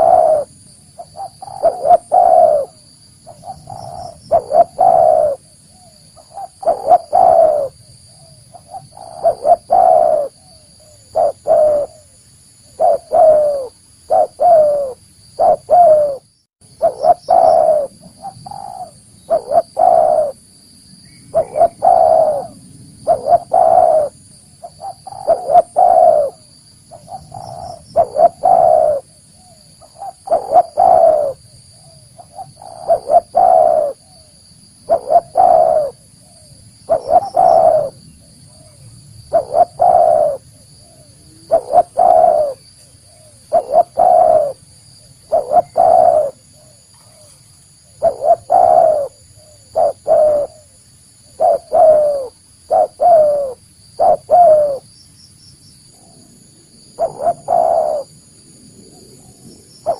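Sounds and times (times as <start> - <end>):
dove cooing: 0.0 - 20.4, 21.3 - 54.9, 56.0 - 58.2, 58.9 - 59.9.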